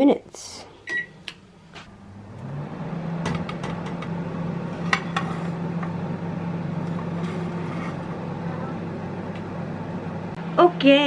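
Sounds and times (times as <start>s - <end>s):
oven humming: 0.3s - 11.0s.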